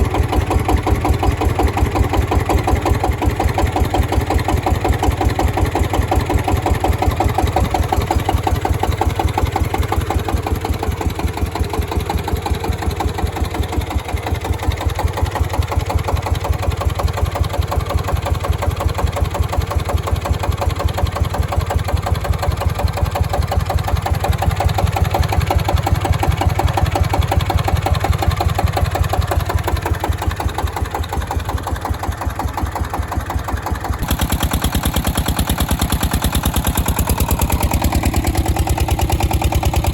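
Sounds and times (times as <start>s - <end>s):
diesel generator engine chugging: 0.0s - 39.9s.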